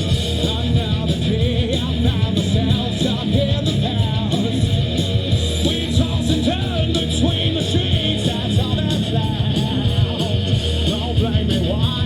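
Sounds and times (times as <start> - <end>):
live rock band playing: 0.0 - 12.0
steady drum beat: 0.0 - 12.0.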